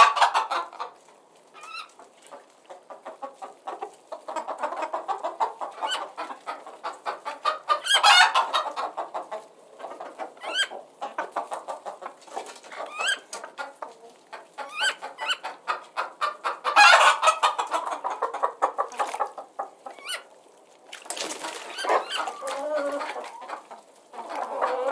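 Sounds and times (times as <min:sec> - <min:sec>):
chicks peeping: 0:00.0 - 0:20.6, 0:21.2 - 0:24.9
hen clucking: 0:00.0 - 0:24.9.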